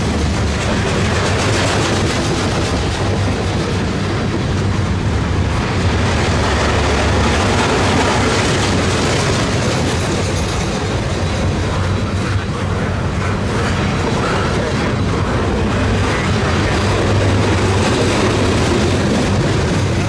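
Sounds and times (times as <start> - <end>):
clickety-clack of rails: 0.0 - 20.0
train wheels rumbling on rails: 0.0 - 20.0.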